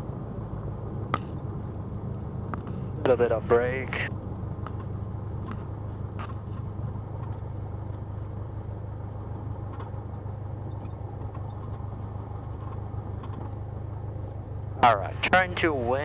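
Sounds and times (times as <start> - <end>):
aircraft piston engine droning: 0.0 - 16.0.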